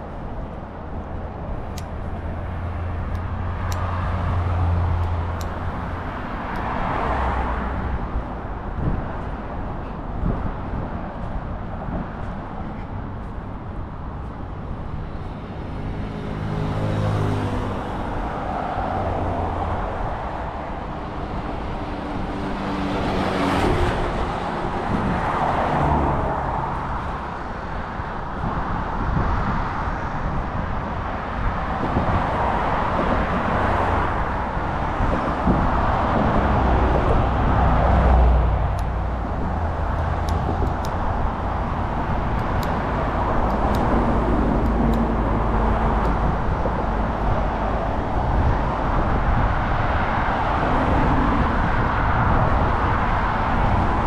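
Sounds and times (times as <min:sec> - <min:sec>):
low engine hum: 0:00.0 - 0:54.0
road traffic passing: 0:00.0 - 0:54.0.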